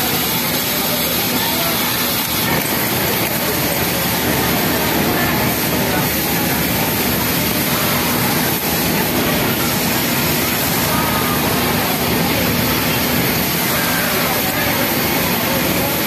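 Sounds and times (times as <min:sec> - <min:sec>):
factory machine noise: 0:00.0 - 0:16.0
sewing machine whirring: 0:00.0 - 0:16.0.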